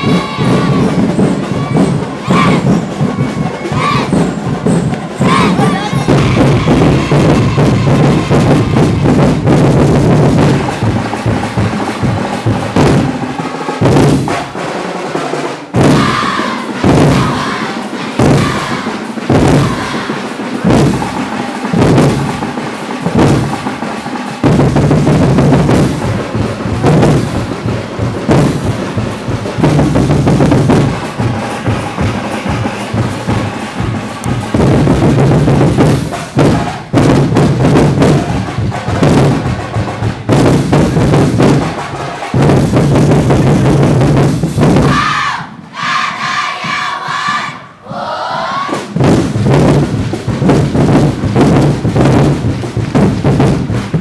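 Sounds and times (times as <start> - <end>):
loud percussion music: 0.0 - 54.0.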